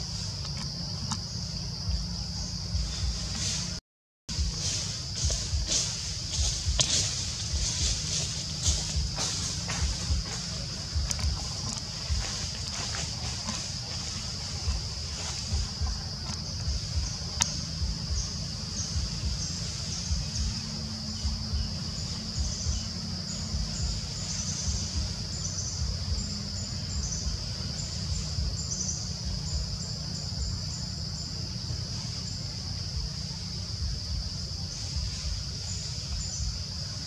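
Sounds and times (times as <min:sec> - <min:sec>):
high-pitched insect drone: 0:00.0 - 0:37.0
low rumbling noise: 0:00.0 - 0:37.0.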